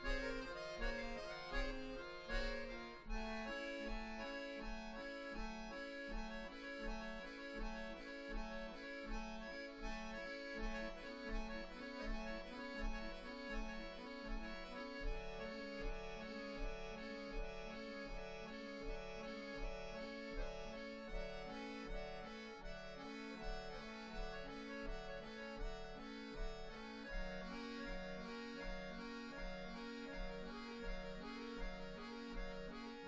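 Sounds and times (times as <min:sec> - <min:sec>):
accordions playing chords: 0:00.0 - 0:33.0.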